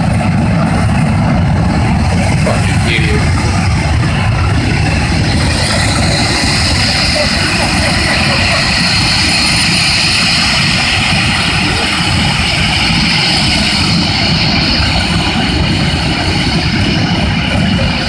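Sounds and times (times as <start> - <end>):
jet turbine engine roar: 0.0 - 18.0.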